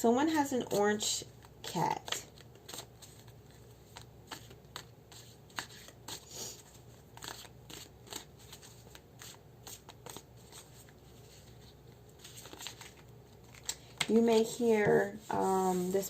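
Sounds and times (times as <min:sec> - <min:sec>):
cards being shuffled: 0:01.4 - 0:14.5
sliding rustle of cards: 0:01.4 - 0:16.0.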